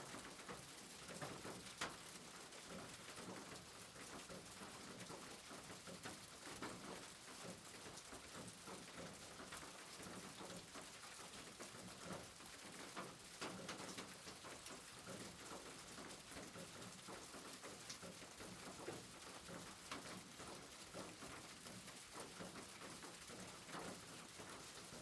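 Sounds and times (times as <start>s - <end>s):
rain pattering on roof: 0.0s - 25.0s.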